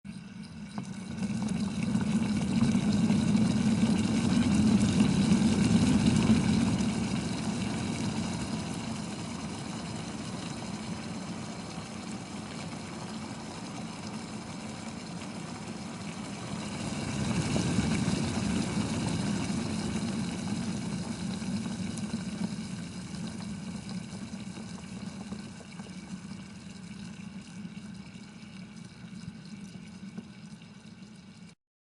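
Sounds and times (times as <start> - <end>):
water boiling: 0.0 - 31.6.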